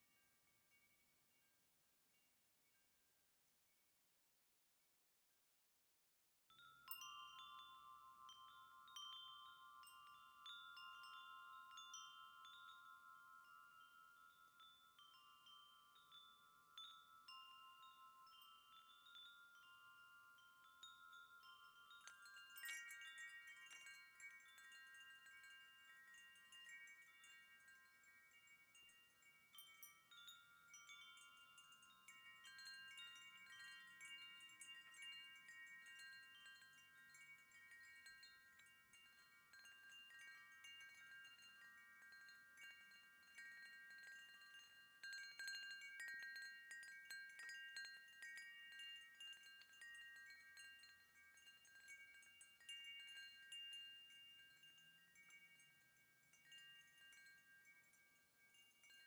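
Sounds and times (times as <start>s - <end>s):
wind chime ringing: 6.5s - 59.0s.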